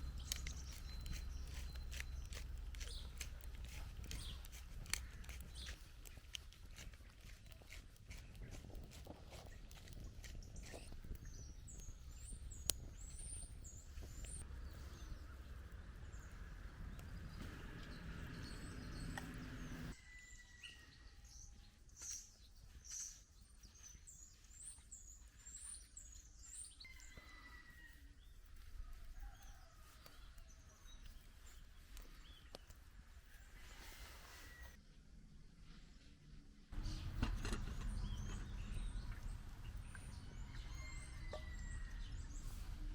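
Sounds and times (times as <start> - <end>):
faint songbirds singing: 0.0 - 34.8, 36.8 - 42.9.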